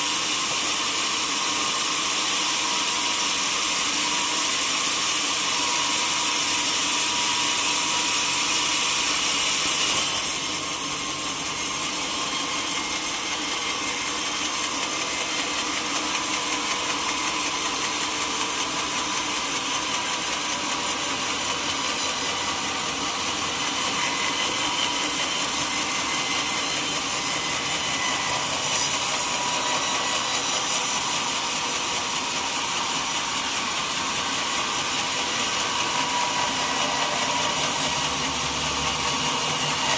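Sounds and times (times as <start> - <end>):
saw blade cutting wood: 0.0 - 39.9.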